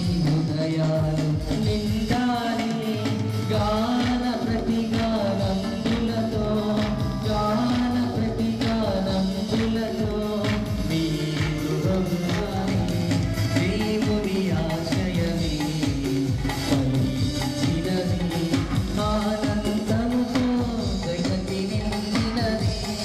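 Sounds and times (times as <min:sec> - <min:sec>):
bass line: 0:00.0 - 0:21.5
electronic drum beat: 0:00.0 - 0:23.0
man singing: 0:00.0 - 0:23.0.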